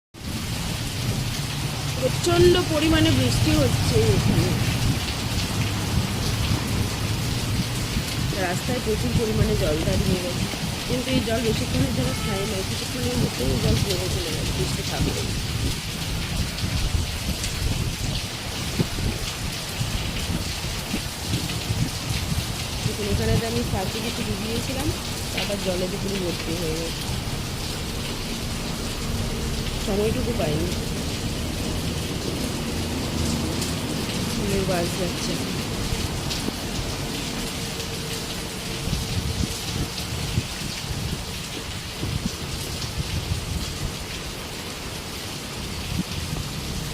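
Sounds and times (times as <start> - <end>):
heavy rain pouring: 0.2 - 46.9.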